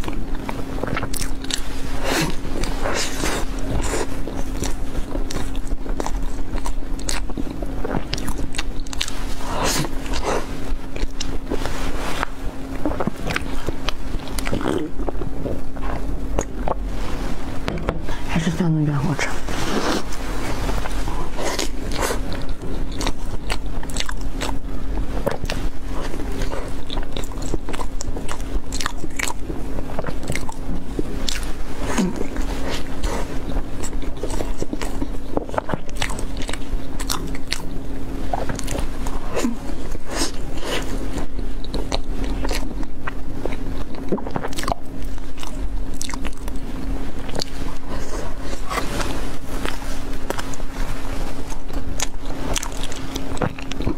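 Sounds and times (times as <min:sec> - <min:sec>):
person chewing wetly: 0:00.0 - 0:18.6, 0:19.2 - 0:53.9
low electrical hum: 0:00.0 - 0:53.9.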